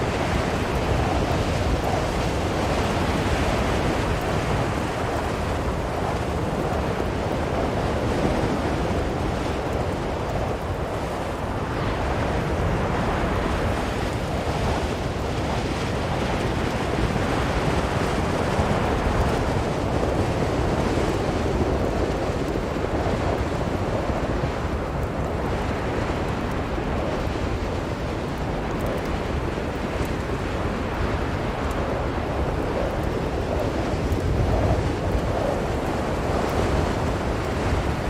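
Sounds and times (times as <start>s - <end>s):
strong blizzard wind blowing: 0.0s - 38.0s.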